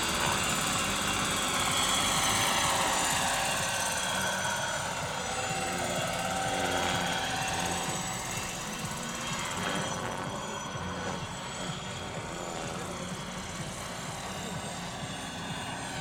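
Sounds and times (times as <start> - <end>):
helicopter rotor chop: 0.0 - 16.0
high drive whine: 0.0 - 16.0.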